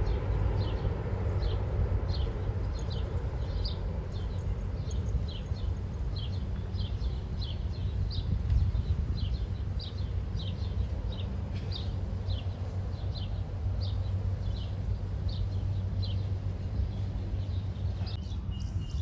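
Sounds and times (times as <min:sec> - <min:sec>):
bird chirping: 0:00.0 - 0:19.0
jet aircraft rumble: 0:00.0 - 0:19.0.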